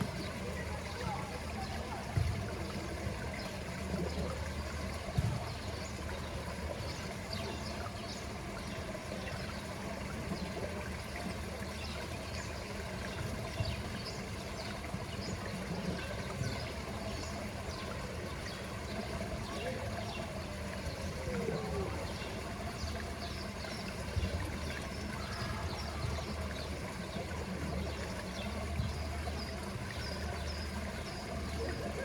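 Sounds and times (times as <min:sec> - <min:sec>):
pool water trickling and lapping: 0:00.0 - 0:32.0
small water splashes: 0:00.0 - 0:32.0.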